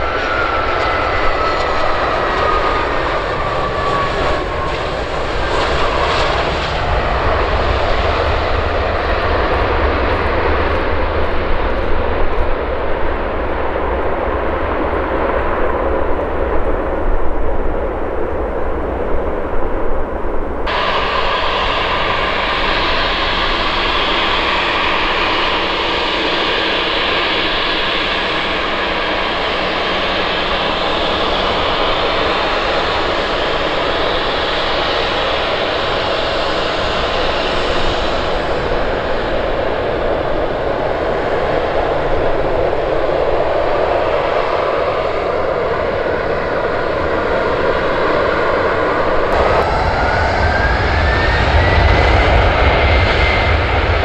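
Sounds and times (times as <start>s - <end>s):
loud jet engine noise: 0.0s - 54.0s.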